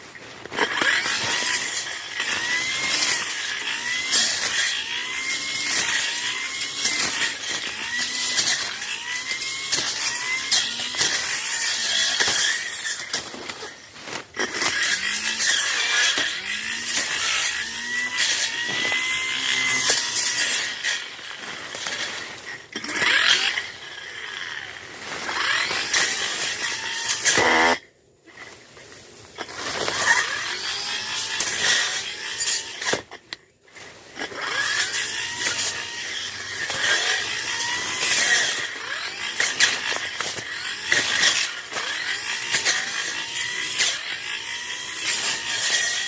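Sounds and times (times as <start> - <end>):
brush cutter engine revving: 0.0 - 28.6, 29.3 - 46.0.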